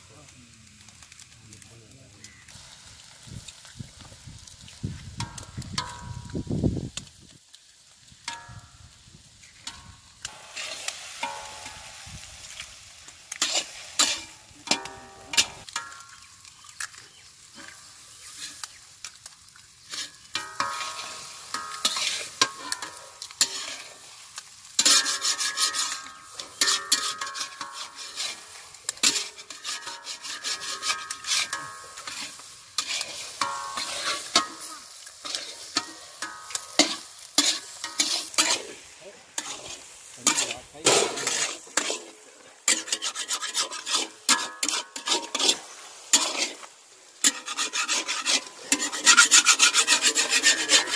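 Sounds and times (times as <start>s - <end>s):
food sizzling in an iron pan: 0.0s - 50.9s
metal spatula scraping a pan: 5.2s - 6.2s, 9.5s - 18.8s, 19.8s - 50.9s.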